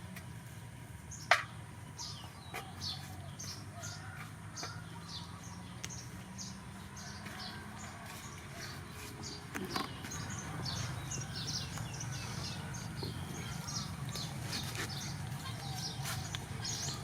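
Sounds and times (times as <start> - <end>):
bird chirping: 1.1 - 17.0.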